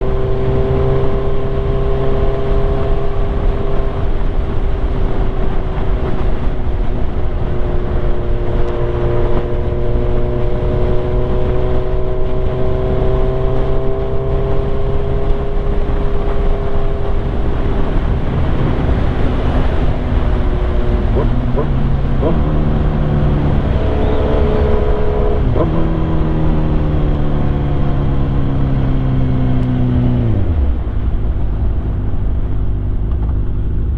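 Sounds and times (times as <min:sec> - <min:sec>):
motorcycle engine cruising: 0:00.0 - 0:33.9
road and wind noise: 0:00.0 - 0:33.9.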